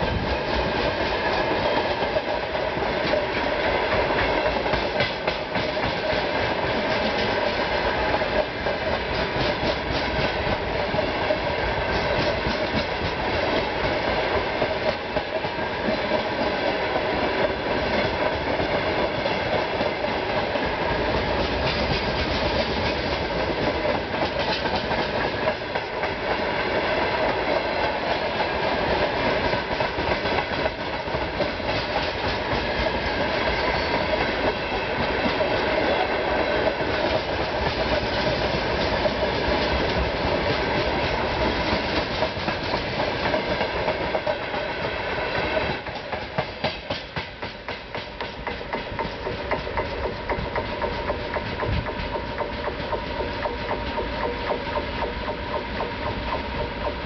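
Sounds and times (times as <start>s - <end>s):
steel wheels clattering on rails: 0.0s - 57.0s.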